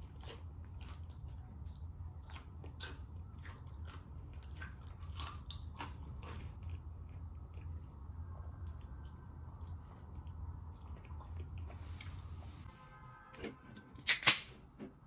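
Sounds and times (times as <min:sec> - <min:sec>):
steady low hum: 0:00.0 - 0:13.4
person chewing and crunching food: 0:00.0 - 0:15.0.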